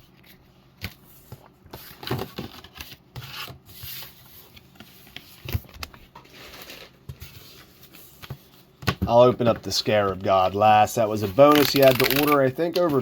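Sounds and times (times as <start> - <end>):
cards and packaging rustling: 0.1 - 13.0.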